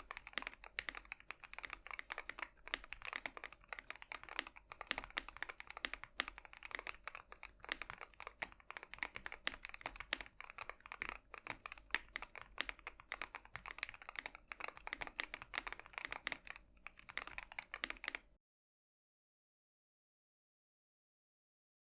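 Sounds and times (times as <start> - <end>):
fast typing on mechanical keyboard: 0.0 - 18.3.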